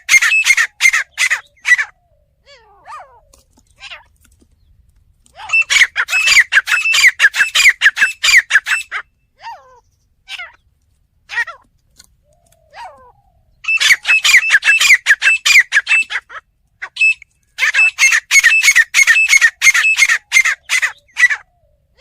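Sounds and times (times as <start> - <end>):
francolin calling: 0.0 - 4.1, 5.4 - 10.6, 12.2 - 22.0.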